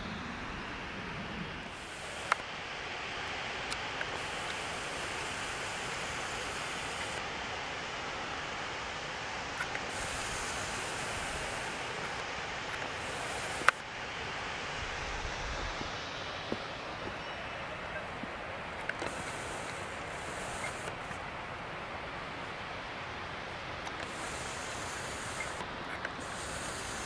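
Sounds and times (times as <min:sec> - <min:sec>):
distant waterfalls rushing: 0:00.0 - 0:27.0.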